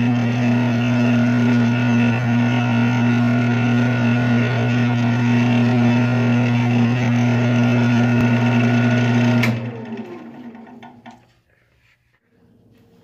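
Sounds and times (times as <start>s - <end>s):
wood lathe motor humming: 0.0s - 11.2s.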